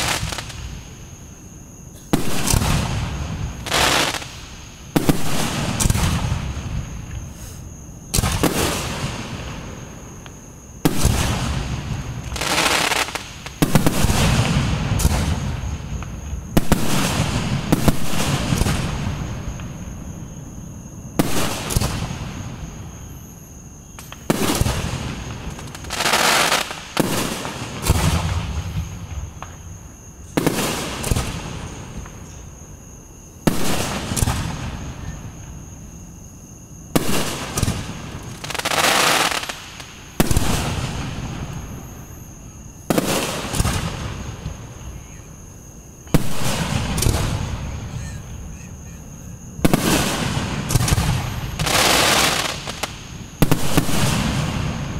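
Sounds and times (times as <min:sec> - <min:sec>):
fireworks booming: 0:00.0 - 0:01.0, 0:01.9 - 0:23.0, 0:23.9 - 0:32.4, 0:33.4 - 0:35.7, 0:36.9 - 0:45.4, 0:46.0 - 0:54.9.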